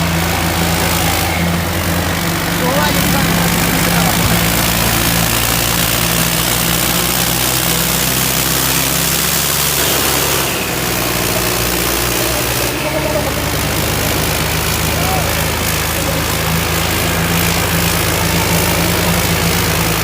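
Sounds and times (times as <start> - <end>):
diesel tractor engines running: 0.0 - 20.0.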